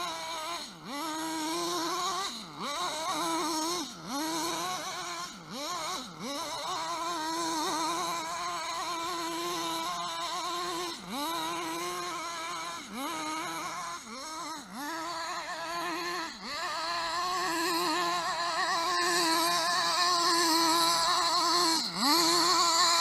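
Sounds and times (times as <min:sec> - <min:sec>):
toy car motor whining: 0:00.0 - 0:23.0.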